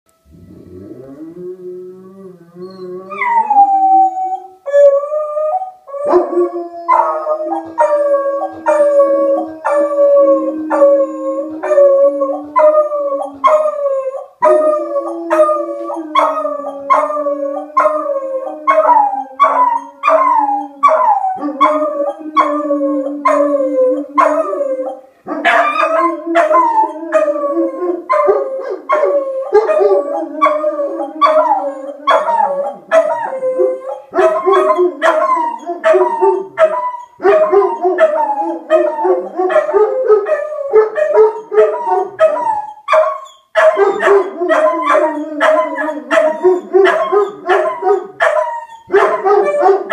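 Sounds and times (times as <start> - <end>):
dogs howling: 0.4 - 49.9.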